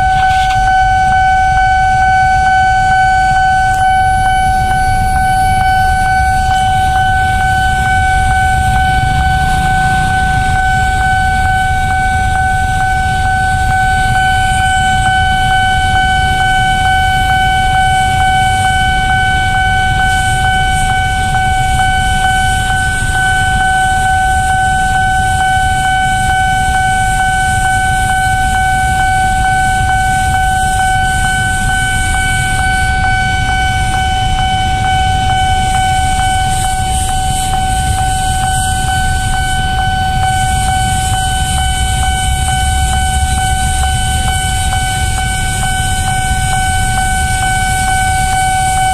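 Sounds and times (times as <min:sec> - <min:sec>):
crossing warning tone: 0:00.0 - 0:48.9
freight train rumbling: 0:00.0 - 0:48.9.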